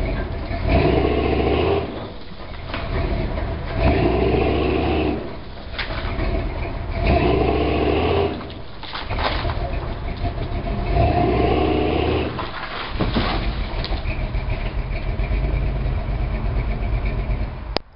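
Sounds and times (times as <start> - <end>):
truck engine revving: 0.0 - 17.8.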